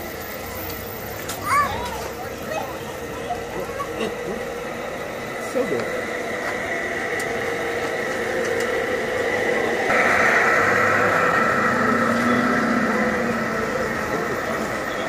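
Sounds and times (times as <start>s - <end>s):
model locomotive whine and hum: 0.0s - 15.0s.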